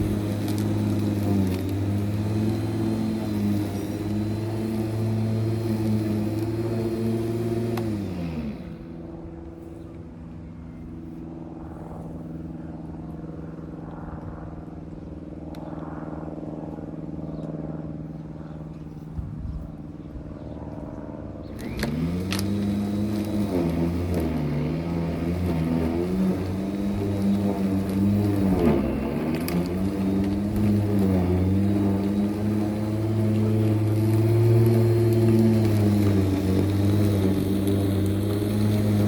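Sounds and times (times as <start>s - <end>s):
lawn mower engine: 0.0s - 13.8s, 16.8s - 39.0s.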